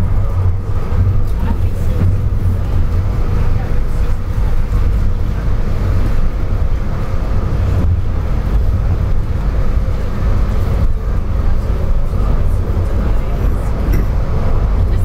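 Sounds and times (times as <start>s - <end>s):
light rail car rumble: 0.0s - 15.0s.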